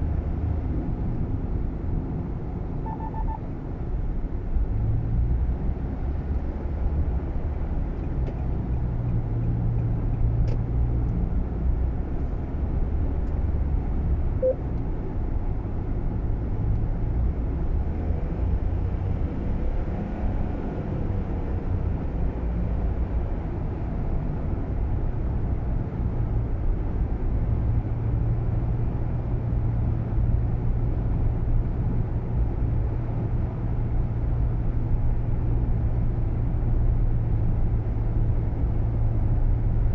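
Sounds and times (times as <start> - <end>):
road and engine rumble inside car: 0.0 - 39.9.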